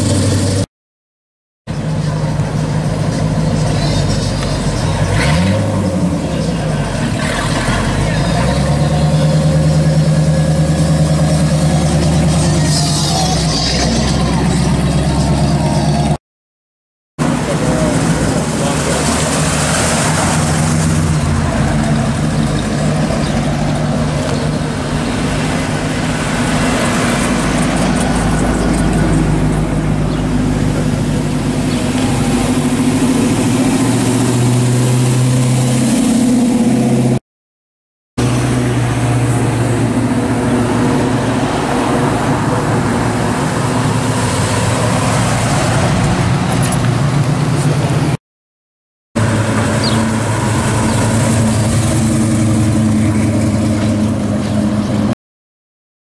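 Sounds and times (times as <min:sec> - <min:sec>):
muscle car engines rumbling: 0:00.0 - 0:00.7, 0:01.7 - 0:16.2, 0:17.2 - 0:37.2, 0:38.2 - 0:48.2, 0:49.2 - 0:55.1.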